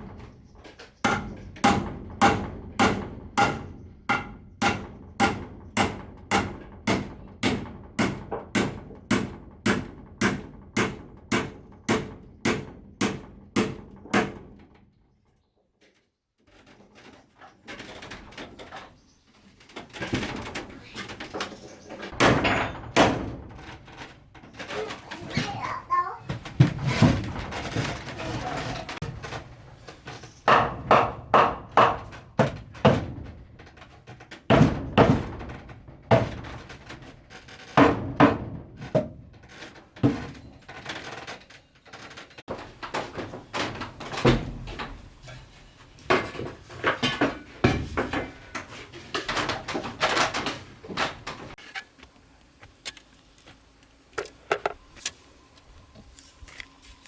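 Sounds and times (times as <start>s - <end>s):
wooden knocks and thuds: 0.0s - 14.8s, 19.7s - 51.6s.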